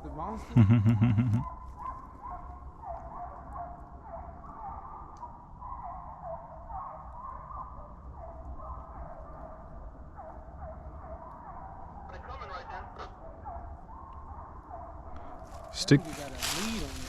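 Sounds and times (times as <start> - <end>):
hounds baying: 0.4 - 17.0.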